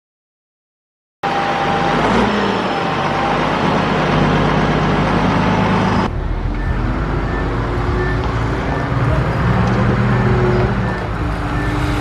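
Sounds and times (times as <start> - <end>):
bulldozer diesel engine running: 1.2 - 12.0.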